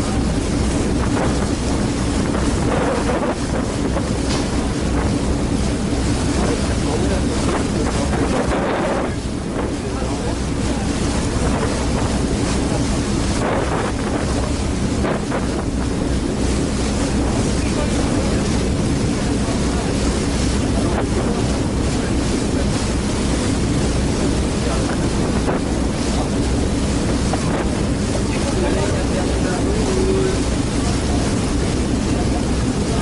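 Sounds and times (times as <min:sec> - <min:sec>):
rushing wind: 0:00.0 - 0:33.0
ship engines droning: 0:00.0 - 0:33.0
water noise: 0:00.0 - 0:33.0.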